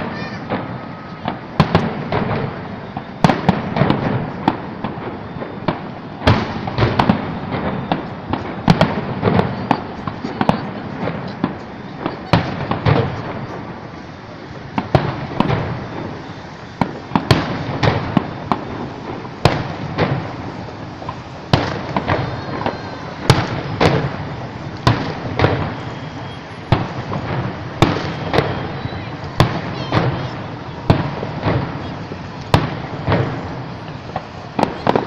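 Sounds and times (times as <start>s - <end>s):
fireworks bursting with echo: 0.0s - 35.0s.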